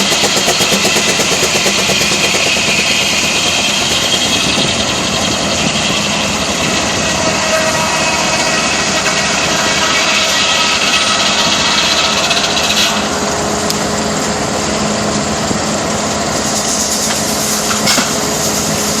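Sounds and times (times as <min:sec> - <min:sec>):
saw blade rasping whine: 0:00.0 - 0:19.0
sawmill steady hum: 0:00.0 - 0:19.0.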